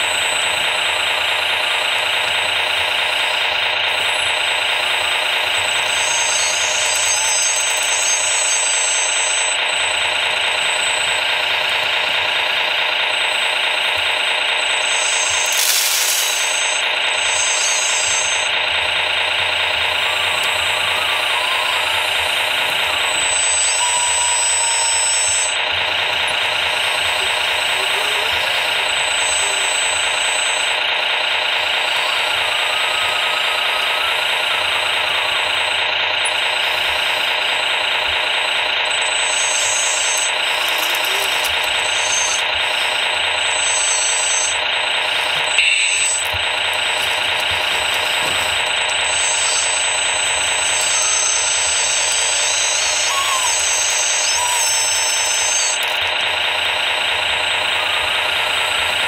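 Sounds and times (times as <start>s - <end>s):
model vehicle mechanical whir: 0.0s - 59.0s.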